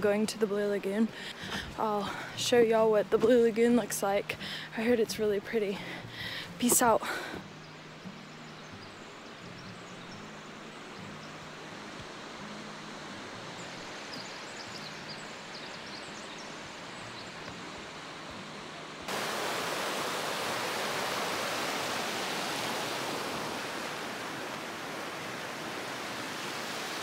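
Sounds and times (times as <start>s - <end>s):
steady outdoor noise: 0.0s - 27.0s.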